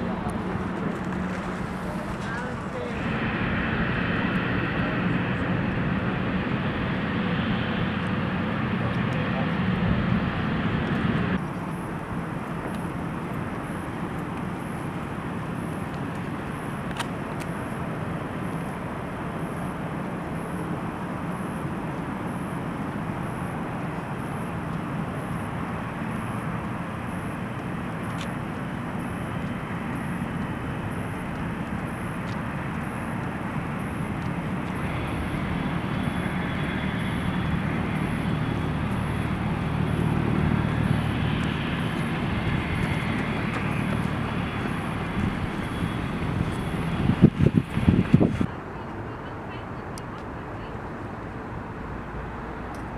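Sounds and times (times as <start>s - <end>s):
airliner jet engine: 0.0s - 52.9s.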